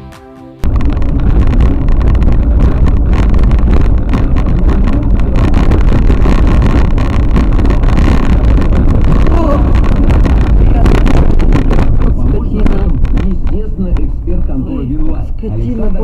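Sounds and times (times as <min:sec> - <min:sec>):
vehicle rumble: 0:00.6 - 0:16.0
wind buffeting microphone: 0:00.6 - 0:16.0.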